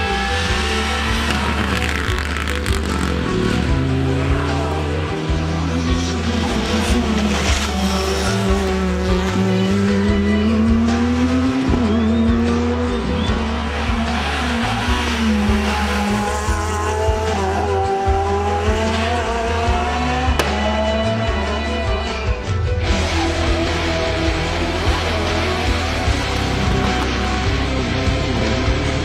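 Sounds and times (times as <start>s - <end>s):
music with bass beat: 0.0s - 29.0s
rally car engine revving: 0.0s - 29.0s.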